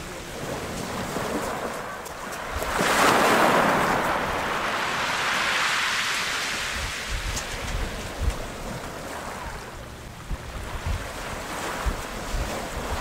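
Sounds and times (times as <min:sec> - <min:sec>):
choppy sea water washing: 0:00.0 - 0:13.0
wind buffeting microphone: 0:00.0 - 0:13.0.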